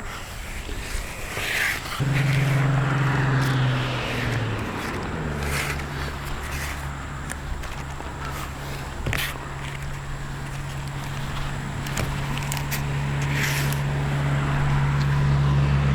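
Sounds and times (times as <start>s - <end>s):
vehicle engine hum: 0.0s - 15.9s.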